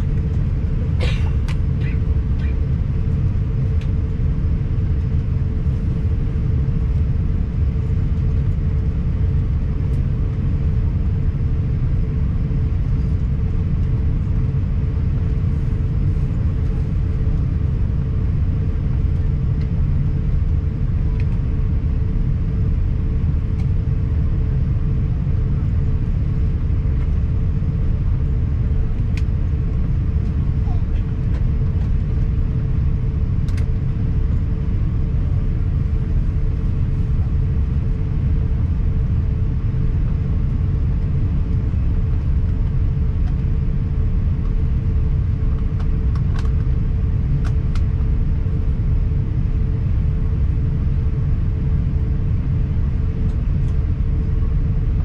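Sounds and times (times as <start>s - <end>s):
low engine rumble: 0.0s - 55.0s
steady hum: 0.0s - 55.0s.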